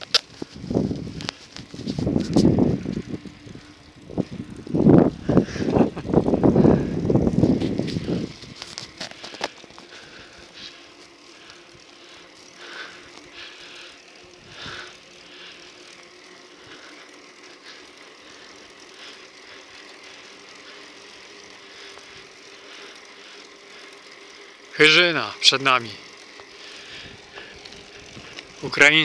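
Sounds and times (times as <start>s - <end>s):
bicycle clicks and knocks: 0.0s - 29.0s
bicycle rolling on asphalt: 0.0s - 29.0s.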